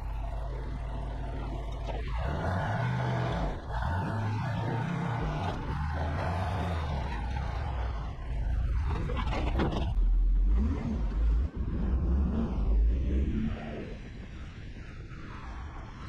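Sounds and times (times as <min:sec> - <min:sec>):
vehicle engine revving: 0:00.0 - 0:13.7.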